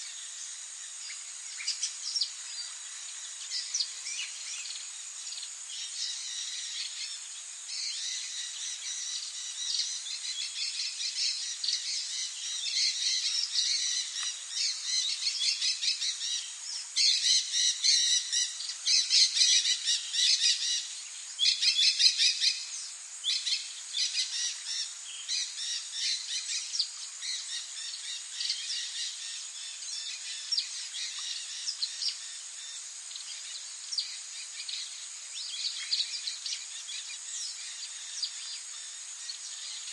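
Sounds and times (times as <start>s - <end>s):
high-pitched hiss: 0.0s - 39.9s
birds chirping and singing: 1.0s - 39.9s.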